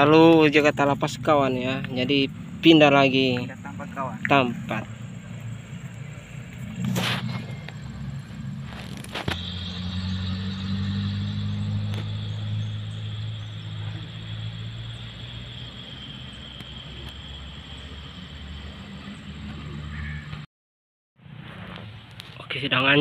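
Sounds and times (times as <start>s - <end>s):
faint high whine: 0.0s - 20.4s
vehicle engine rumble passing: 0.0s - 20.5s.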